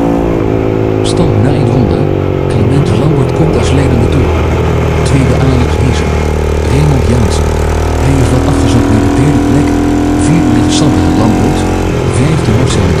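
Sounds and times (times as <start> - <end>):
motorcycle engine at speed: 0.0 - 13.0.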